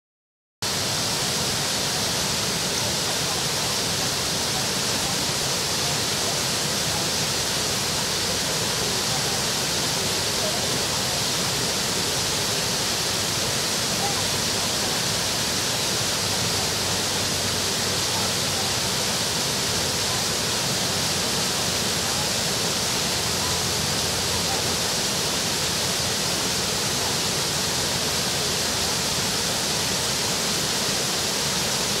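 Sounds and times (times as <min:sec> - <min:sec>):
small waterfall rushing: 0:00.6 - 0:32.0.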